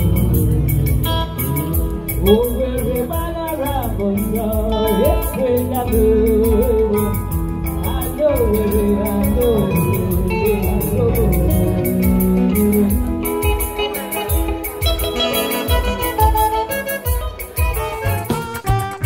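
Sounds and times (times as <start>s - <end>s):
woman singing into microphone: 0.0s - 16.3s
electric guitar: 0.0s - 19.0s
percussion beat: 0.0s - 19.0s.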